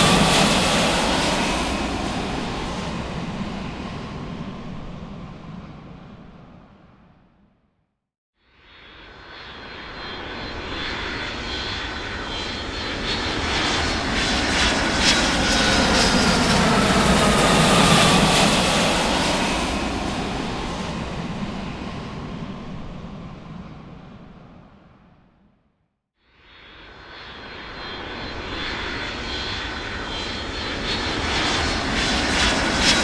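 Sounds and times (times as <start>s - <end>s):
aircraft engines flyby: 0.0s - 7.7s, 8.7s - 25.7s, 26.5s - 33.0s.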